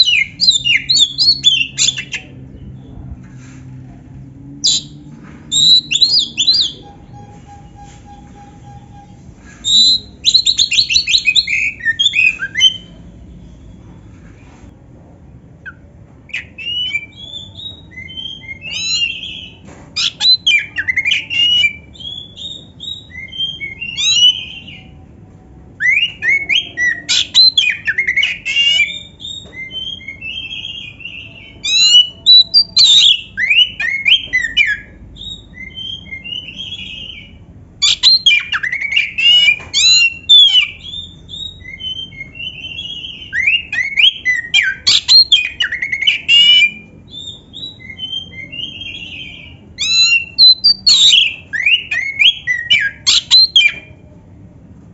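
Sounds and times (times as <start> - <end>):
bird singing varied song: 0.0 - 3.2, 4.6 - 13.7, 15.6 - 25.1, 25.8 - 54.0.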